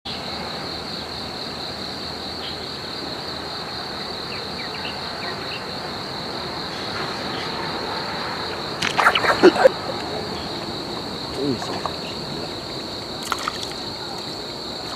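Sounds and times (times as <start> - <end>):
insects chirring: 0.1 - 14.9.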